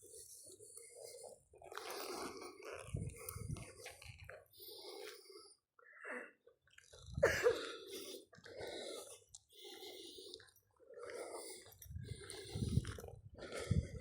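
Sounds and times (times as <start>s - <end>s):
heavy rhythmic breathing: 0.0s - 14.0s.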